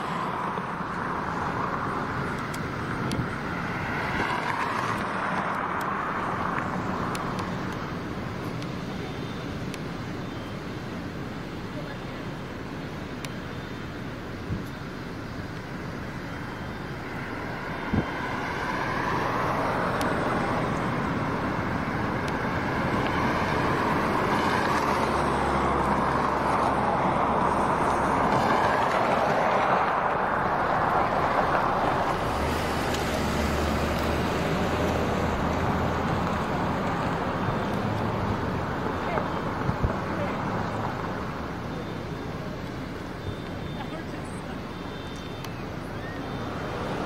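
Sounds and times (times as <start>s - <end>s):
low engine hum: 0.0s - 47.0s
road traffic passing: 0.0s - 47.0s.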